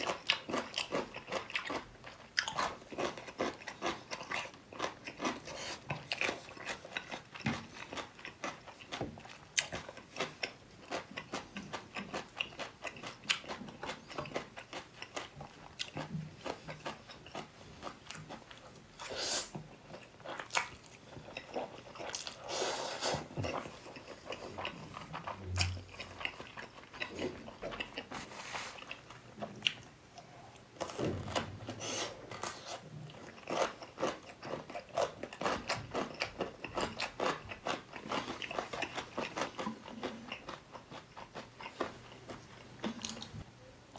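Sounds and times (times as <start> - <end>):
person chewing: 0.0 - 43.4.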